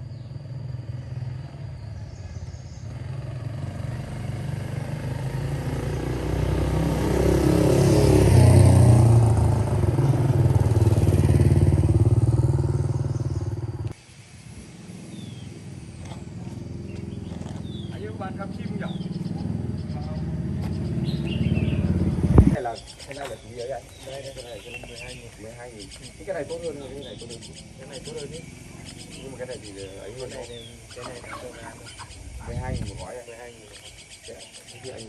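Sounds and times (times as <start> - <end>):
motorcycle engine running: 0.0 - 14.0, 14.6 - 35.0.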